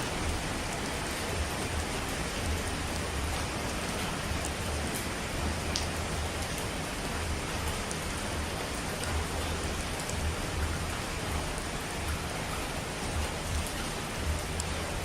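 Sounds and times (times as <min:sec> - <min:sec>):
falling water rushing: 0:00.0 - 0:15.0.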